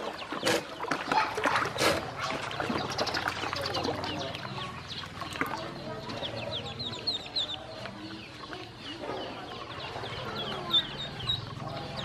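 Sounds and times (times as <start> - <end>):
ducklings peeping: 0.0 - 12.0
water splashing: 0.0 - 12.0.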